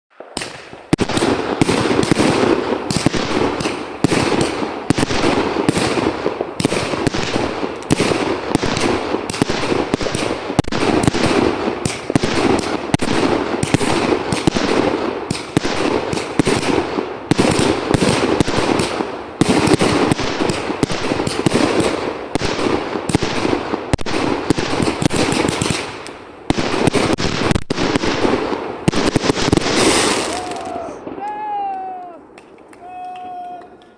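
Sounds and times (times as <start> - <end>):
fireworks bangs and crackles: 0.1 - 32.9.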